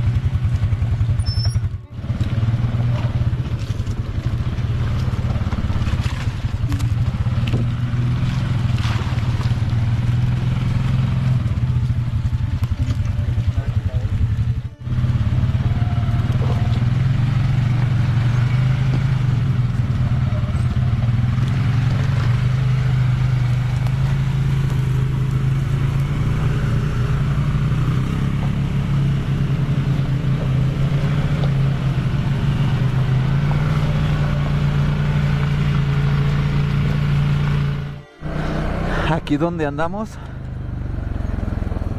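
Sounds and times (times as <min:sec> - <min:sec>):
quad bike engine running: 0:00.0 - 0:41.9.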